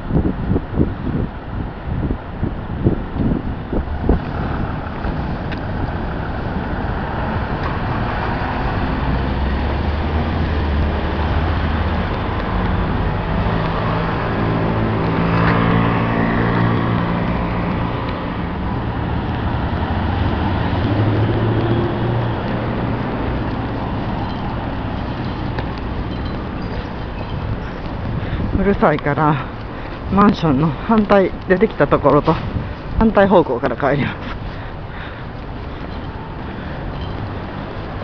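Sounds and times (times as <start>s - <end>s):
cars and truck passing: 0.0s - 38.0s.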